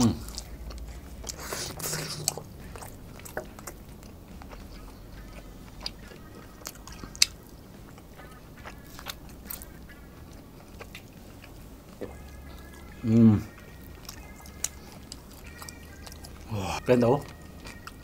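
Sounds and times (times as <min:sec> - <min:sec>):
close chewing mouth sounds: 0:00.0 - 0:18.0.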